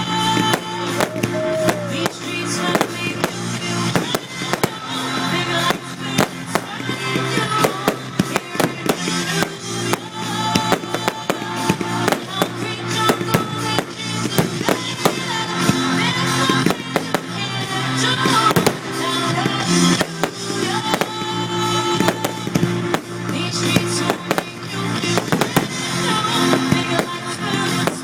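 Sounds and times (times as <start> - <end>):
fireworks bangs and crackles: 0.0 - 28.0
loud music: 0.0 - 28.0.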